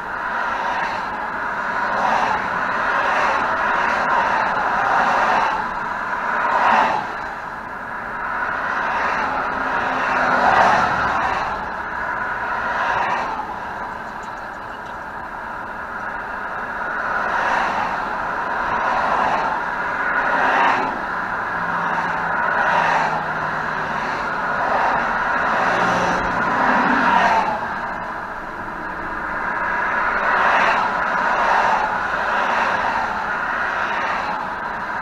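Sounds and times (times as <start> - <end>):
highway traffic rushing past: 0.0 - 35.0.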